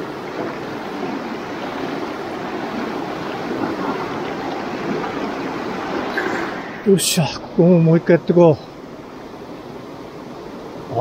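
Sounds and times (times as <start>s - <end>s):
river current rushing: 0.0s - 11.0s.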